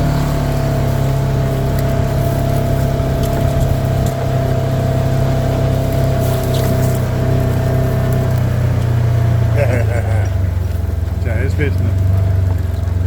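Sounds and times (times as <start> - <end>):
high engine whine: 0.0 - 13.0
vehicle engine droning: 0.0 - 13.0.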